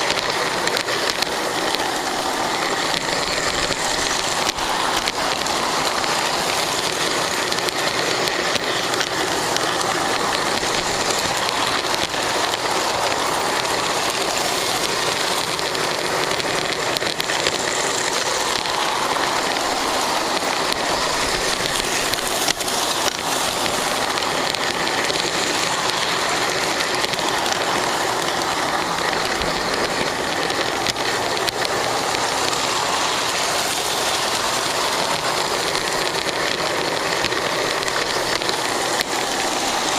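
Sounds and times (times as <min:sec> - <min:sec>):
model train motor whirring and rattling: 0:00.0 - 0:39.9.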